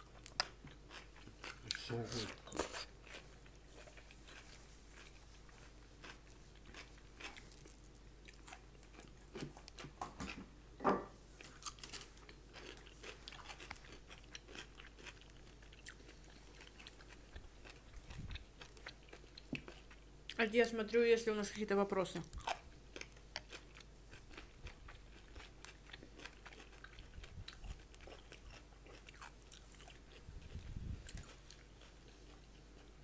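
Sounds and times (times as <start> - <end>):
chewing and crunching: 0.0 - 10.4, 11.4 - 20.4, 22.2 - 33.0.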